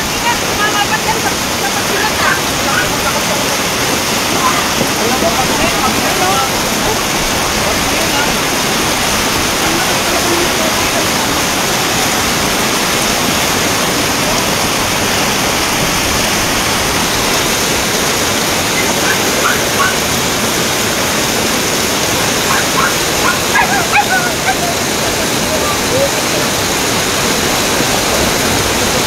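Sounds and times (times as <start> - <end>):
floodwater rushing: 0.0 - 29.0
heavy rain falling: 0.0 - 29.0.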